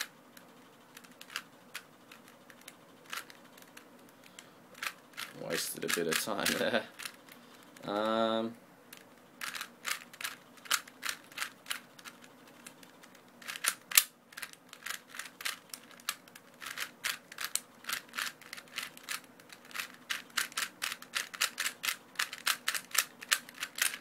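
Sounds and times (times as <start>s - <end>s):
puzzle cube clicking and clacking: 0.0s - 8.2s, 8.9s - 24.0s.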